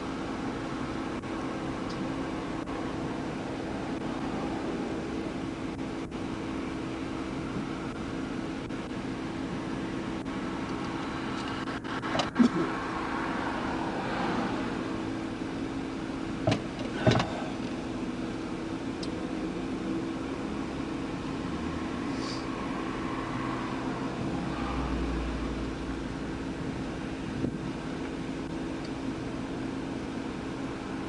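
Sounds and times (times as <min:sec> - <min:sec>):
vehicle engine hum: 0:00.0 - 0:31.0.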